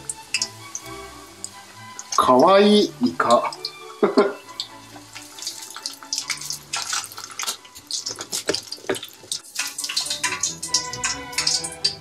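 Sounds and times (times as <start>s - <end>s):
squid deep-frying in hot oil: 0.0s - 12.0s.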